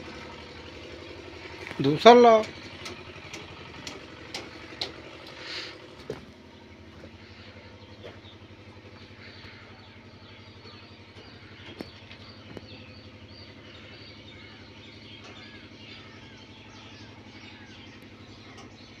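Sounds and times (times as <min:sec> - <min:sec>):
birds chirping: 0:00.0 - 0:19.0
engine idling: 0:00.0 - 0:19.0.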